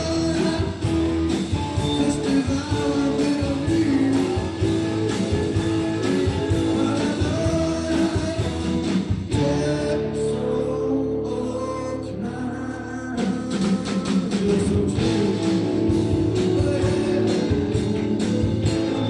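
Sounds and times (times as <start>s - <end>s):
blues-rock band playing: 0.0s - 19.0s
electric guitar: 0.0s - 19.0s.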